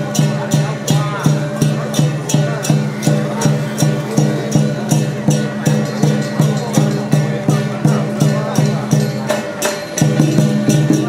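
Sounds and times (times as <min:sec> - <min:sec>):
cymbals ringing: 0:00.0 - 0:11.0
drum beat: 0:00.0 - 0:11.0.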